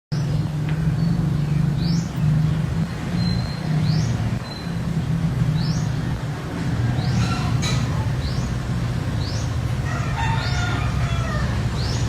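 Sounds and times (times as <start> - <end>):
bird chirping: 0.1 - 6.2, 6.8 - 12.0.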